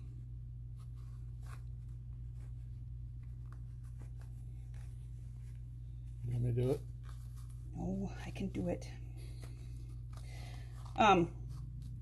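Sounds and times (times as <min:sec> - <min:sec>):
fabric rustling: 0:00.0 - 0:12.0
steady low hum: 0:00.0 - 0:12.0.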